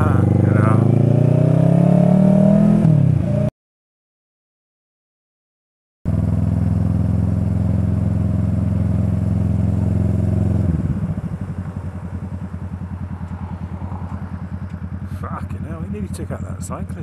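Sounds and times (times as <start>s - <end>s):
motorcycle engine running: 0.0s - 3.5s, 6.1s - 17.0s.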